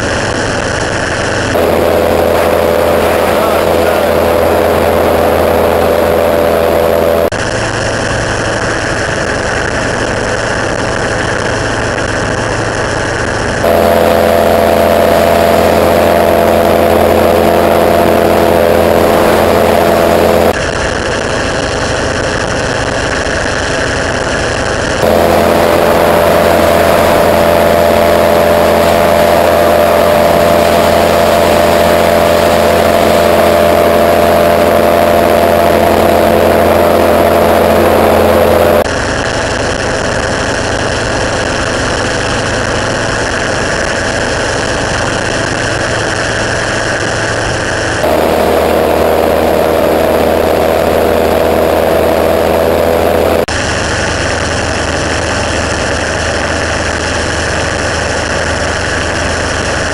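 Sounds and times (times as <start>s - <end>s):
gyroplane engine droning: 0.0s - 59.9s.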